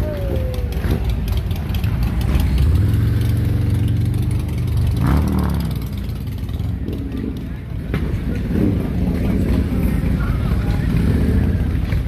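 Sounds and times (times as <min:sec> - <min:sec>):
motorcycle engine revving: 0:00.4 - 0:12.0.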